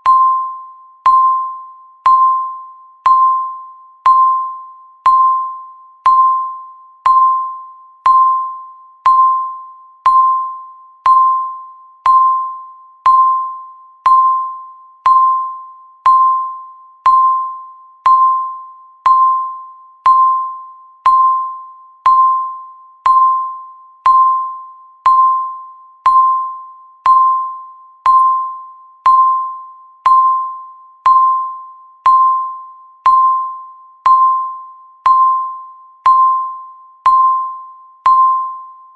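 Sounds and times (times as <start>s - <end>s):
bell-like timer ping: 0.0s - 38.9s.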